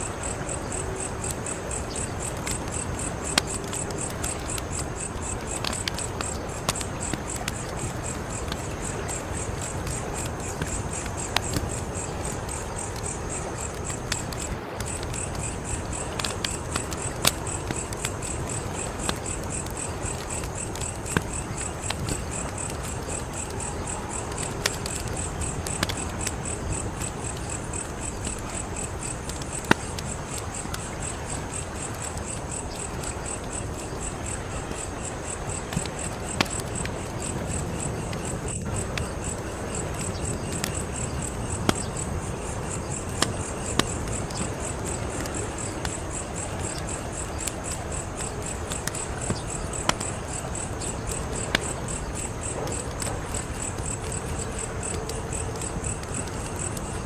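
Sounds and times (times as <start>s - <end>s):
crickets chirping: 0.0s - 57.0s
wood fire crackling and popping: 0.0s - 57.0s.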